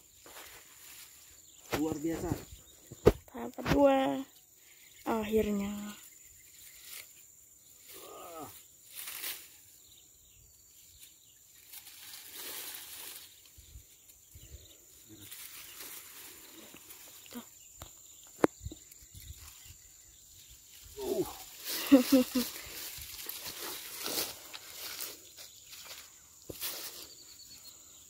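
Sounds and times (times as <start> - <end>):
wet grass and leaves rustling: 0.0 - 28.0.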